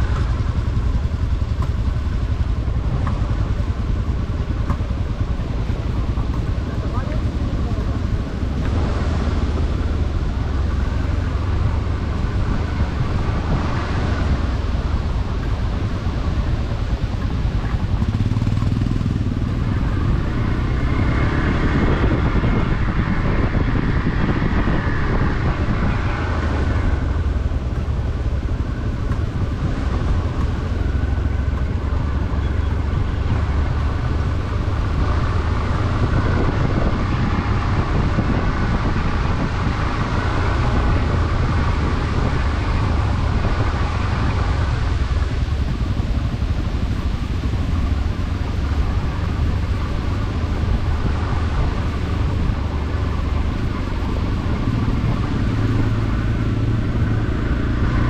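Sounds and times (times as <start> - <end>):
motorcycle engine running: 0.0 - 58.0
wind rumble on microphone: 0.0 - 58.0.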